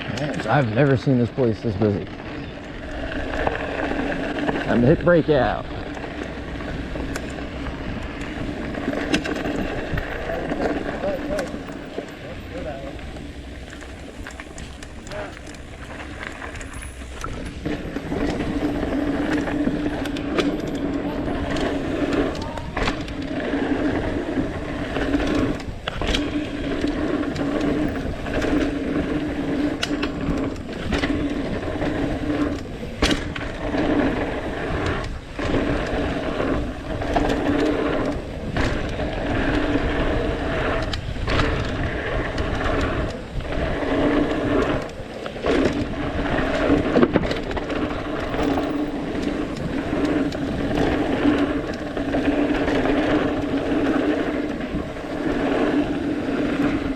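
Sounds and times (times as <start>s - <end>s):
bike knocking and rattling: 0.0s - 56.9s
bike tyres rolling over dirt: 0.0s - 56.9s.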